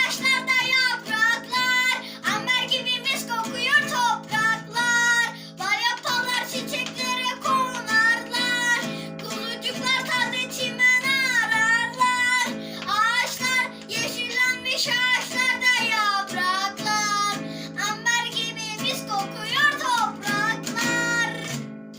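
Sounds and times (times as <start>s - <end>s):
high voice singing: 0.0s - 21.6s
plucked acoustic guitar: 0.0s - 21.9s.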